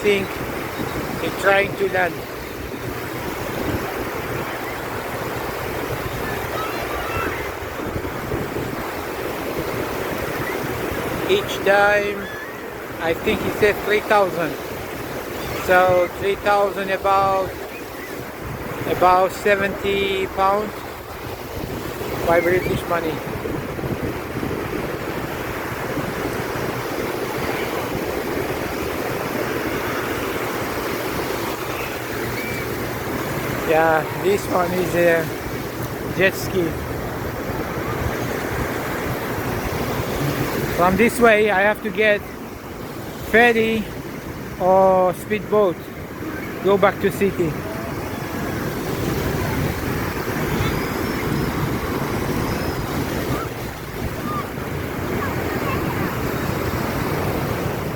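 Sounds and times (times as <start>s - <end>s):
wind buffeting microphone: 0.0s - 44.6s, 47.4s - 57.9s
sea surf breaking on beach: 0.0s - 57.9s.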